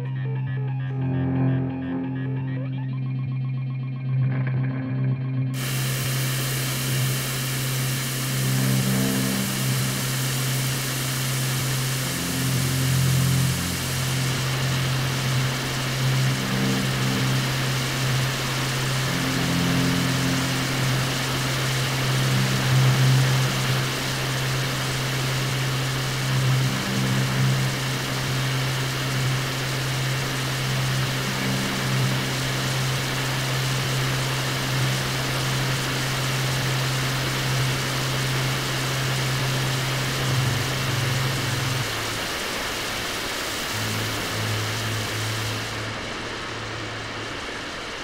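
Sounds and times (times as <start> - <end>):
guitar drone: 0.0 - 48.0
hiss-like noise: 5.6 - 48.0.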